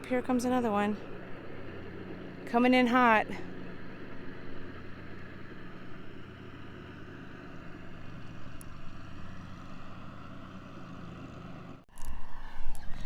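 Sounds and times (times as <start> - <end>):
lawn mower engine running: 0.0 - 11.8
faint wind: 0.0 - 13.0.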